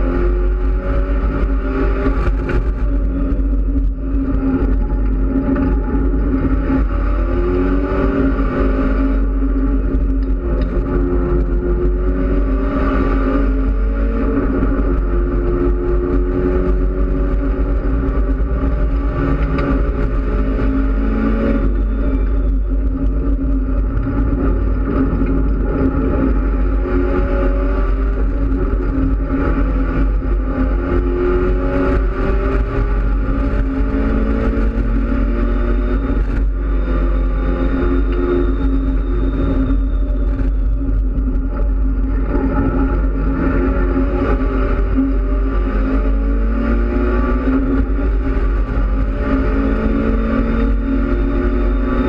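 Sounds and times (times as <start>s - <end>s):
race car engine accelerating: 0.0s - 52.0s.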